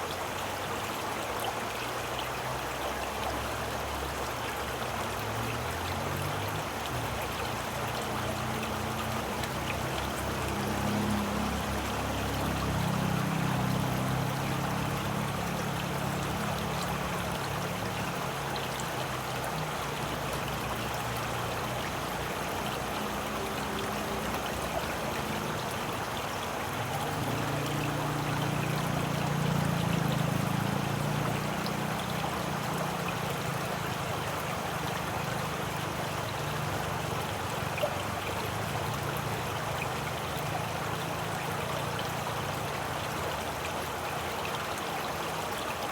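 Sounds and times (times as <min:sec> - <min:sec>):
running water flowing: 0:00.0 - 0:45.9.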